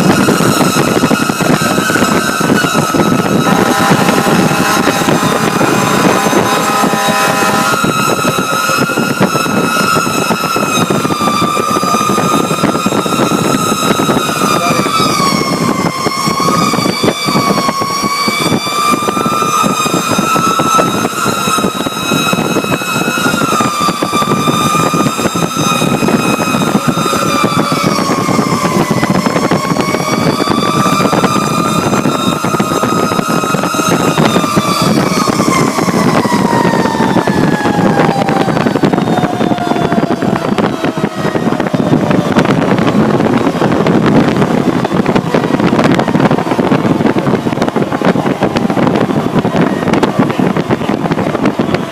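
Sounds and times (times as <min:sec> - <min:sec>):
fire truck siren: 0:00.0 - 0:51.9
road noise: 0:00.0 - 0:51.9
truck engine: 0:00.0 - 0:51.9.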